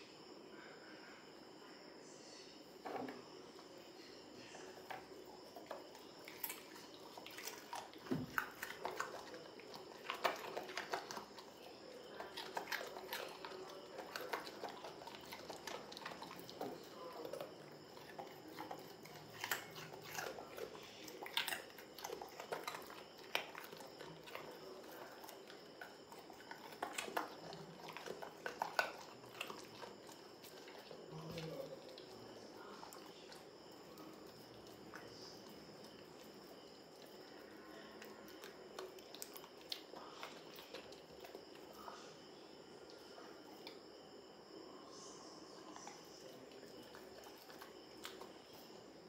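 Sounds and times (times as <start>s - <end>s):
dog crunching carrot: 4.7s - 42.0s, 45.7s - 48.8s.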